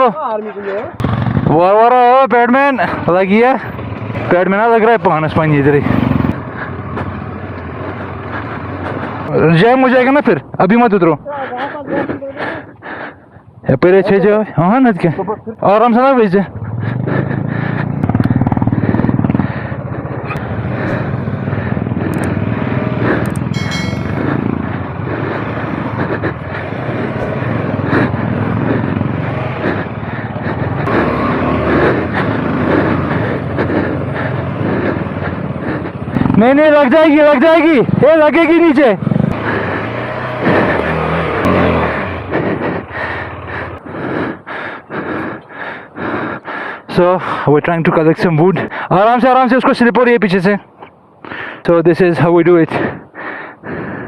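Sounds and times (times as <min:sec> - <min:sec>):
motorcycle engines running: 0:00.0 - 0:54.0.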